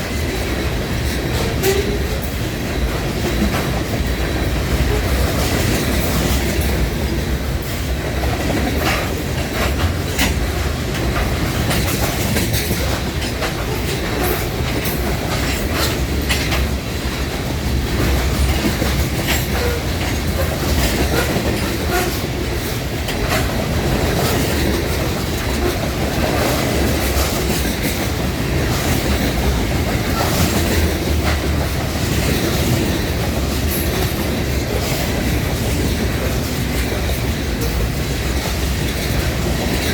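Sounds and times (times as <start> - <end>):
freight train rumble: 0.0 - 39.9
wheel clicks over rail joints: 7.6 - 39.9.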